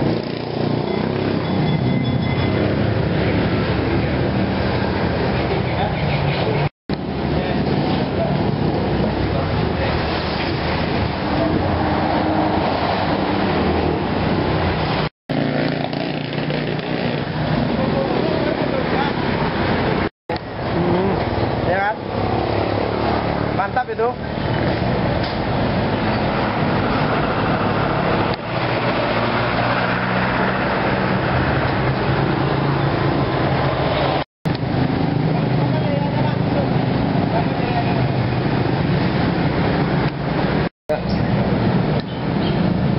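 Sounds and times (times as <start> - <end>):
motorcycle engines passing: 0.0 - 42.9
roadside traffic noise: 0.0 - 42.9.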